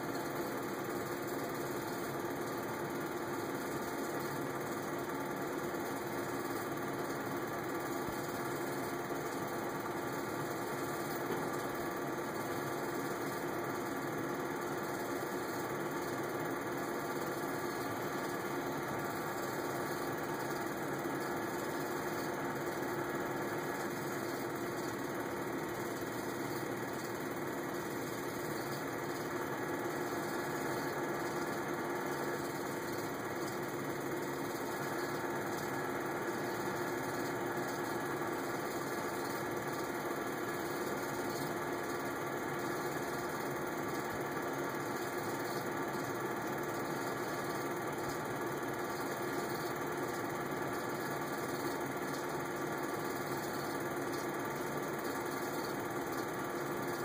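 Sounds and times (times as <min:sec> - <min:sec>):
film projector whirring: 0:00.0 - 0:57.0.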